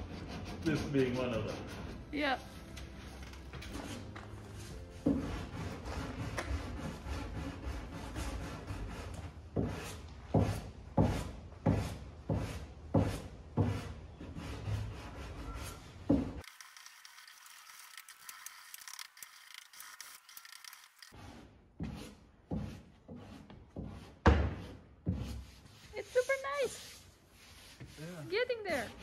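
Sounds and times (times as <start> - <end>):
hand sanding strokes: 0.0 - 2.7, 3.7 - 29.0.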